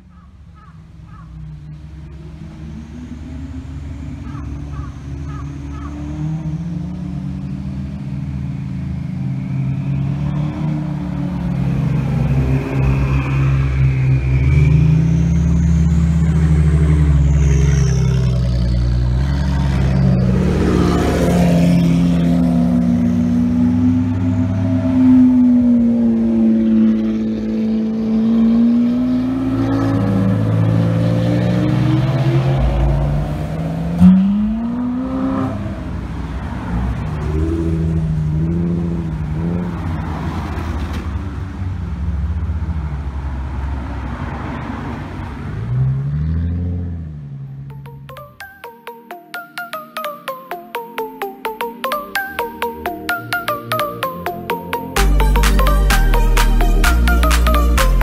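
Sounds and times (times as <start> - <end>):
sports cars driving past: 0.3 - 47.7.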